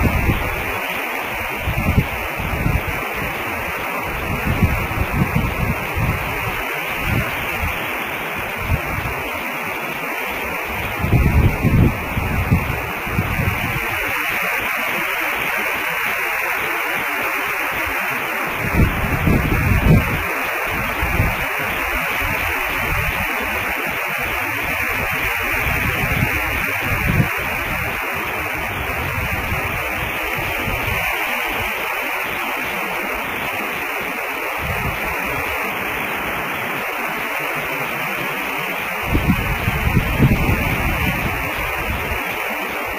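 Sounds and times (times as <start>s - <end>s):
static hiss: 0.0s - 42.9s.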